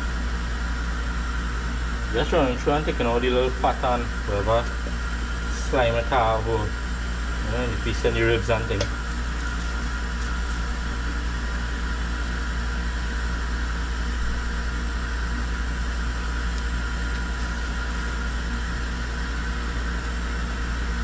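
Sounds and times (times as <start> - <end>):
fan-driven appliance humming: 0.0 - 21.0.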